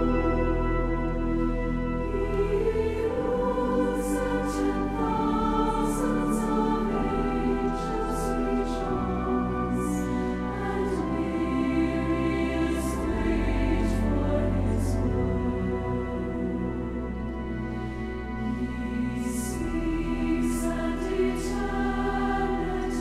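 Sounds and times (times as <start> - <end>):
choir singing a hymn: 0.0 - 23.0
pipe organ bass notes: 0.0 - 23.0.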